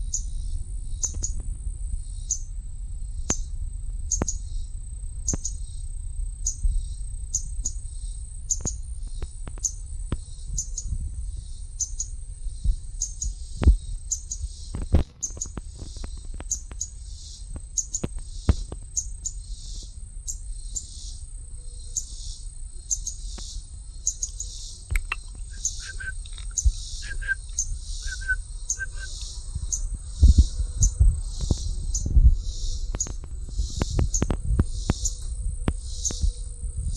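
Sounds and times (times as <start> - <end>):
small bird chirping: 0.0 - 1.4, 2.1 - 2.5, 3.2 - 4.7, 6.4 - 36.9
high insect drone: 2.0 - 36.9.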